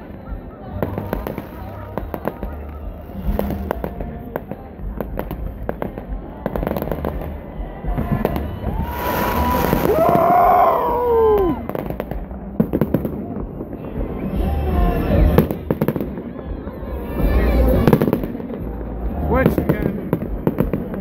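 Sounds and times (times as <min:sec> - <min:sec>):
fireworks bangs and crackles: 0:00.0 - 0:21.0
whistling fireworks: 0:00.0 - 0:21.0.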